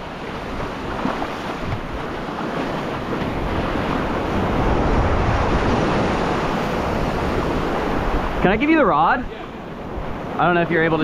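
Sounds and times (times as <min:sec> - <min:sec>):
ocean surf washing: 0:00.0 - 0:11.0
wind rumbling on microphone: 0:00.0 - 0:11.0.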